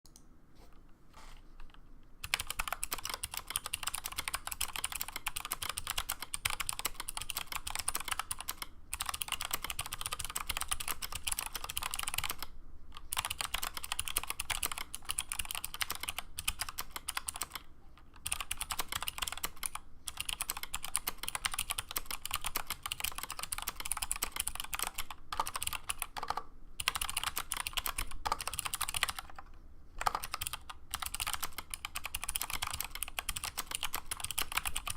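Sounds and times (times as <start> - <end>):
clicky mechanical keyboard typing: 1.6 - 34.9.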